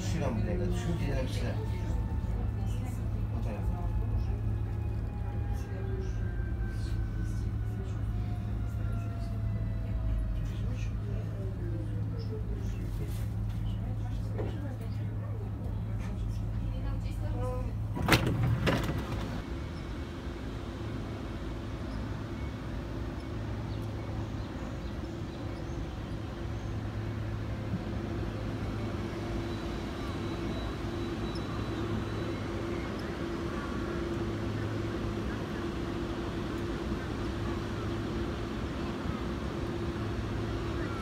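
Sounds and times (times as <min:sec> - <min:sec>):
electric train humming: 0:00.0 - 0:12.7, 0:13.8 - 0:41.0.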